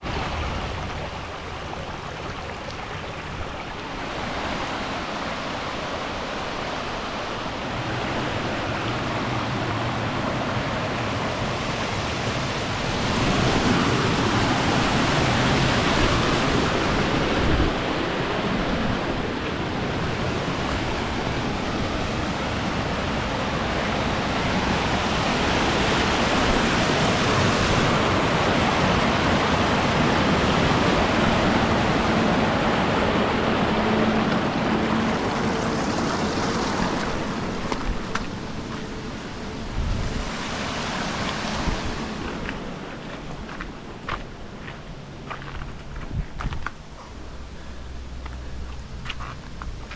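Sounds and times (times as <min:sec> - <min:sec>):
waterfall rushing water: 0:00.0 - 0:45.2.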